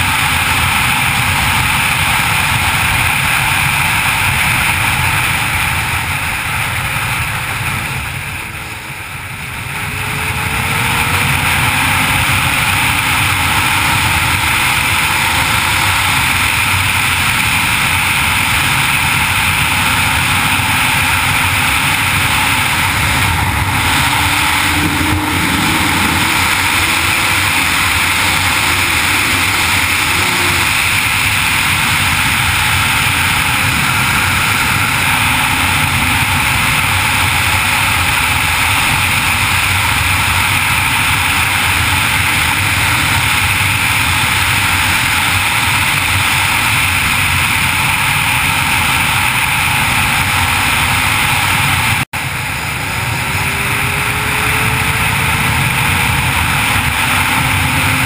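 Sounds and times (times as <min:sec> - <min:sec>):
faint motorcycle engine: 0:00.0 - 0:58.0.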